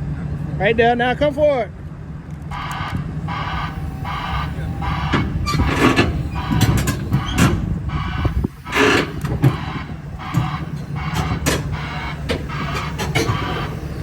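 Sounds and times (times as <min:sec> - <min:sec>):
excavator diesel engine running: 0:00.0 - 0:14.0
metallic squeaks and clanks: 0:02.5 - 0:14.0.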